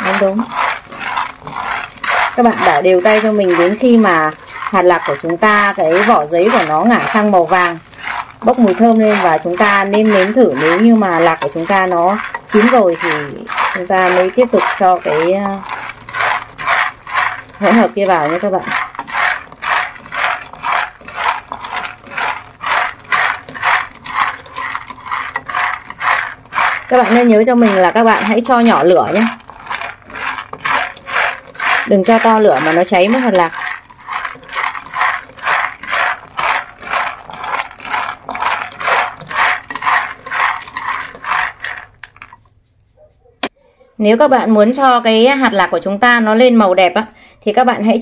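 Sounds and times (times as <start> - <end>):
peanuts rattling in frying pan: 0.0 - 42.9, 44.2 - 48.0.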